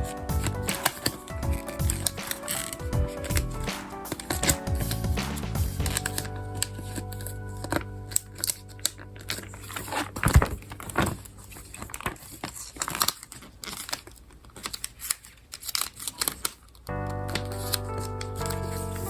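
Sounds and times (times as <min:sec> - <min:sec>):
packaging crinkling and tearing: 0:00.0 - 0:03.4, 0:05.8 - 0:19.0.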